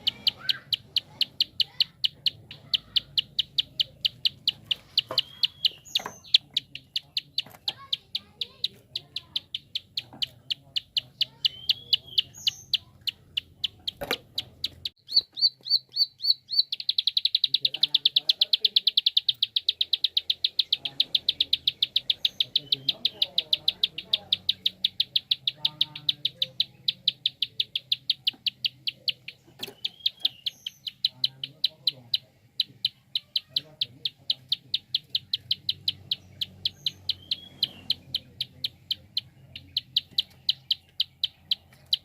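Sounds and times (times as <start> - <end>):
bird clicking calls: 0.0 - 42.0.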